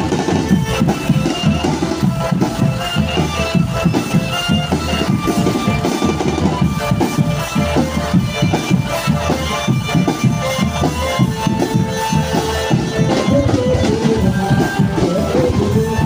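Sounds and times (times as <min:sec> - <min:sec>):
fast drumming: 0:00.0 - 0:16.0
held melody line: 0:00.0 - 0:16.0.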